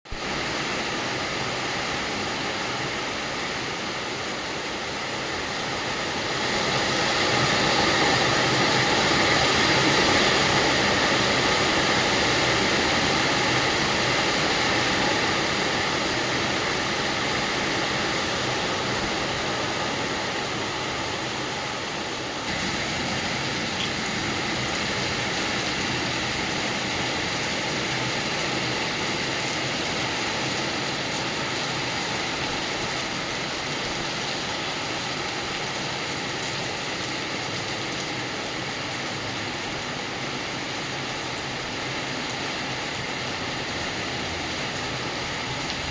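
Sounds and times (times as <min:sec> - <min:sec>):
heavy rain pouring: 0:00.1 - 0:45.9.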